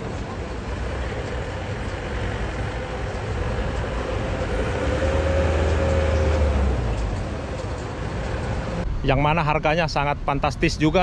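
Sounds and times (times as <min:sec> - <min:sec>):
heavy vehicle engine rumble: 0:00.0 - 0:08.9
outdoor traffic noise: 0:00.0 - 0:11.0.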